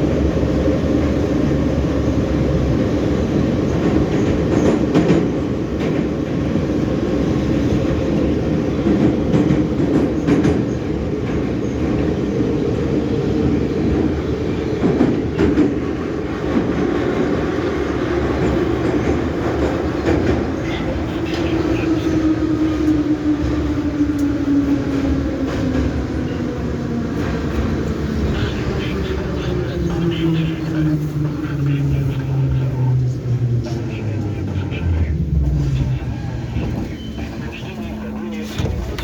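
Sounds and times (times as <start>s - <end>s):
metro train rumbling in tunnel: 0.0s - 39.0s.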